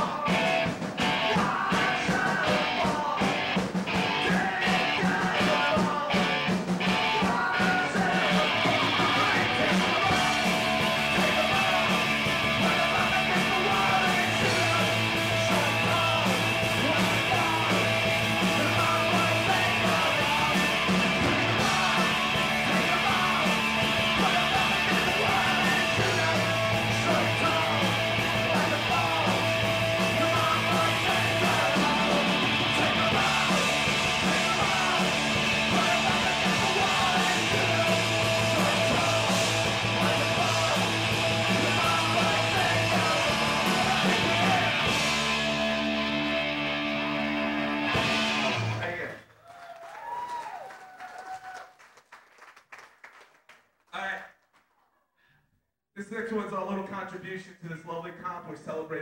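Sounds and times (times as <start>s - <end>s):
electric guitar: 0.0s - 49.0s
bass guitar: 0.0s - 49.2s
drums: 0.0s - 51.7s.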